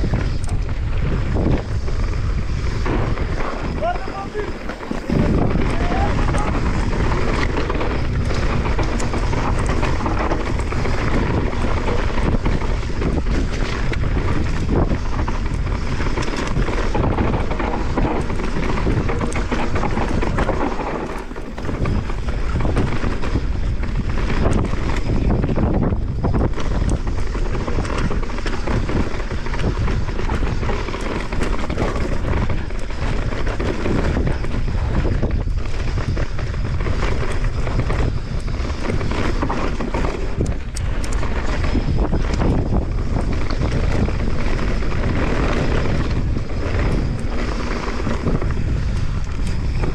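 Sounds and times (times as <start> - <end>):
mountain bike rattling on trail: 0.0 - 49.9
wind on microphone: 0.0 - 49.9.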